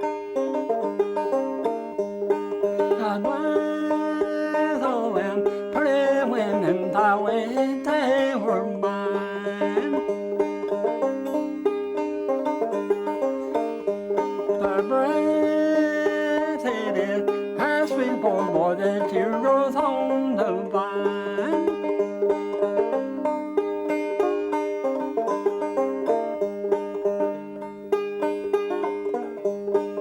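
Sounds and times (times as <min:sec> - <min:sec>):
banjo picking: 0:00.0 - 0:30.0.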